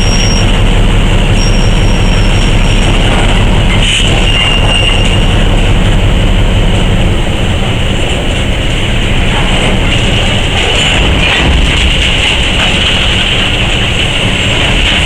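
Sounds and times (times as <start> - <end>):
low diesel locomotive rumble: 0.0 - 15.0
railcars rolling on track: 0.0 - 15.0.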